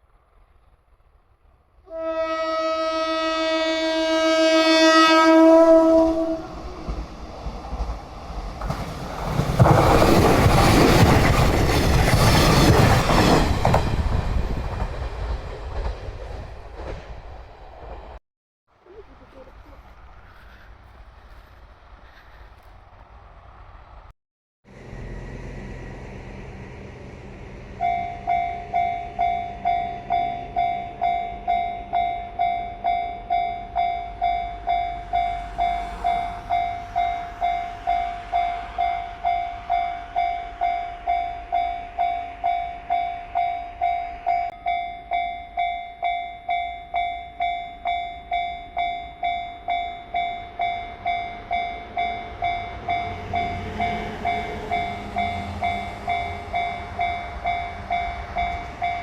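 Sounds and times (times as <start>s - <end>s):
train rumbling: 0.0s - 18.2s, 18.8s - 24.1s, 24.7s - 59.0s.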